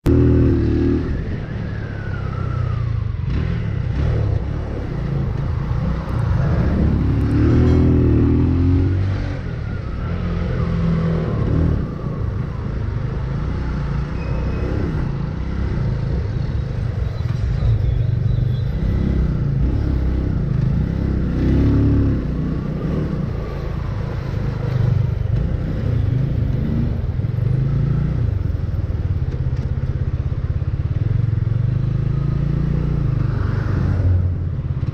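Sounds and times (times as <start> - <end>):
car and motorcycle engines in traffic: 0.0 - 34.9.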